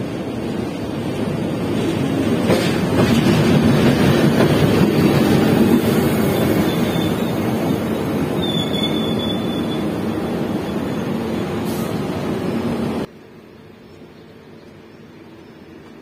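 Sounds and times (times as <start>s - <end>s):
train coaches rolling on rails: 0.0s - 13.1s
diesel locomotive passing: 0.0s - 16.0s.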